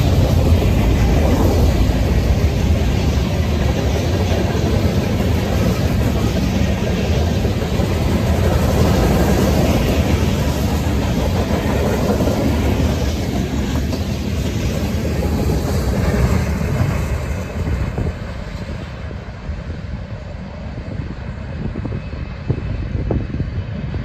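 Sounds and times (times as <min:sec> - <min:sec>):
freight train rolling past: 0:00.0 - 0:24.0
low train rumble: 0:00.0 - 0:24.0.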